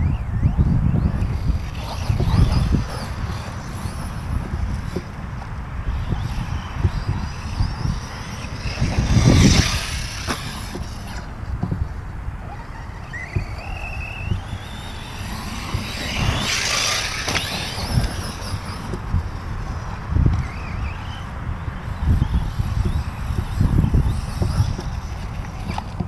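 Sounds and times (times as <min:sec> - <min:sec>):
wind on microphone: 0:00.0 - 0:26.0
electric motor whine: 0:00.4 - 0:26.0.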